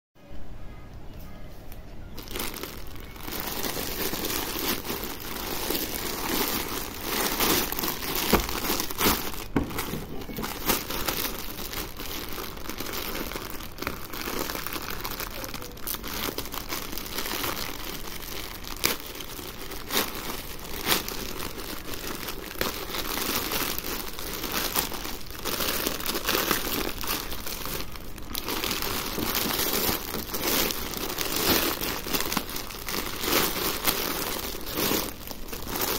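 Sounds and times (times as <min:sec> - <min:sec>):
plastic bag crinkling: 0:02.1 - 0:35.9.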